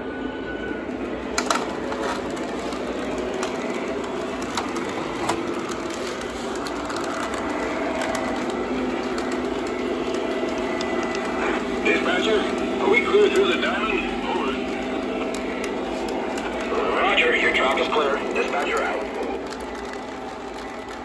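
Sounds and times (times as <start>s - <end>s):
model trains rumbling on metal rail: 0.9s - 21.0s.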